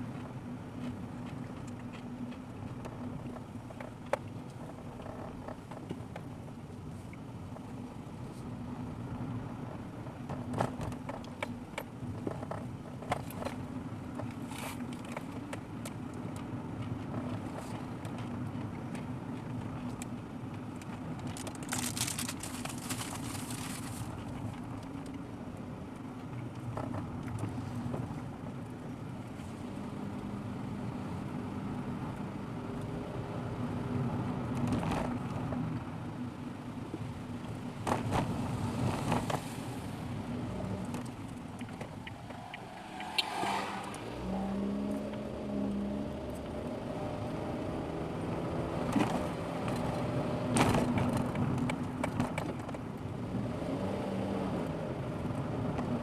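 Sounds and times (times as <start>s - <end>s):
knocks and clicks from road: 0.0s - 30.3s, 34.0s - 36.2s, 36.8s - 46.6s, 48.3s - 53.9s, 54.5s - 56.0s
car engine and road noise: 0.0s - 56.0s.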